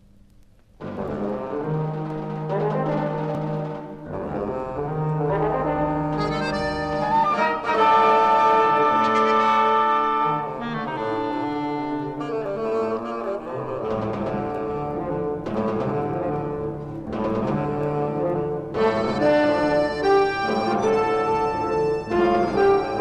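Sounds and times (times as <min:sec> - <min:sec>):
orchestral film music with brass: 0:00.8 - 0:23.0.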